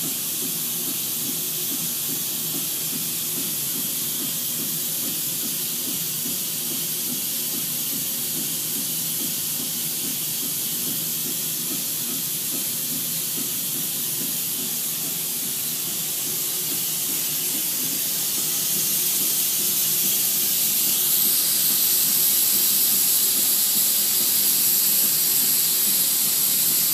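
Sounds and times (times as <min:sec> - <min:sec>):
helium gas venting hiss: 0:00.0 - 0:26.9.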